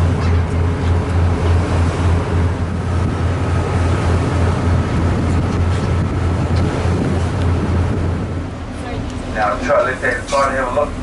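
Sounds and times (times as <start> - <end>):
boat engines droning: 0.0 - 11.0
wind and water hiss: 0.0 - 11.0.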